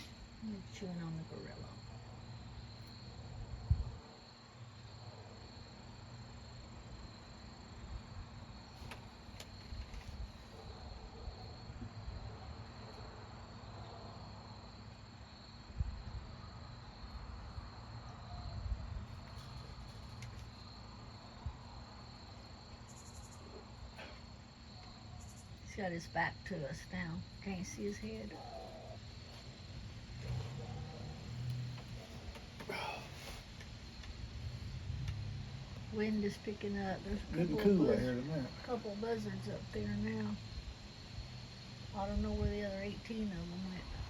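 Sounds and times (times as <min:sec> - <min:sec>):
cricket chorus: 0:00.0 - 0:44.0.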